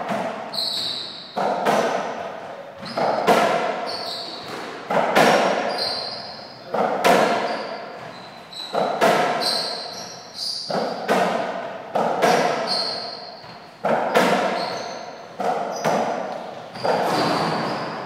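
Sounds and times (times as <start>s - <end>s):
ball hitting racquets and walls: 0.0s - 18.0s
shoe squeaks: 0.5s - 1.8s, 2.8s - 4.8s, 5.4s - 11.1s, 12.3s - 18.0s.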